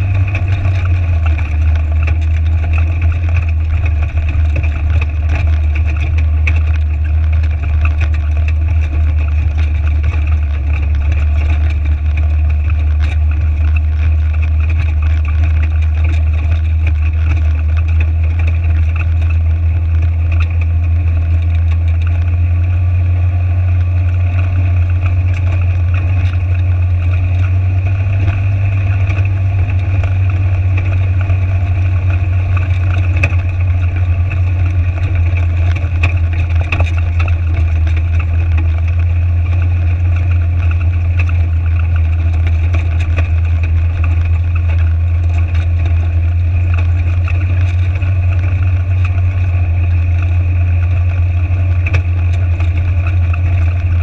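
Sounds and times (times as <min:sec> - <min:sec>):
stones ticking under tyres: 0:00.0 - 0:54.0
utv engine droning: 0:00.0 - 0:54.0.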